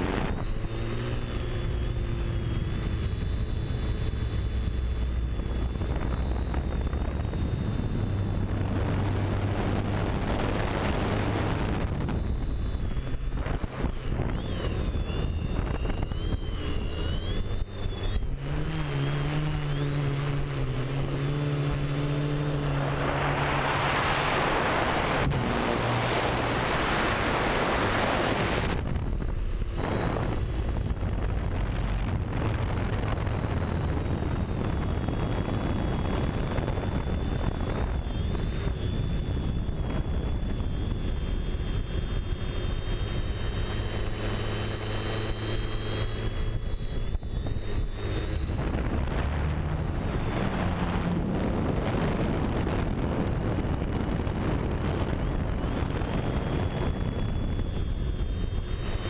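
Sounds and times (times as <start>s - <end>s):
drone motors and propellers whining: 0.0s - 59.0s
wind rushing on microphone: 0.0s - 59.0s.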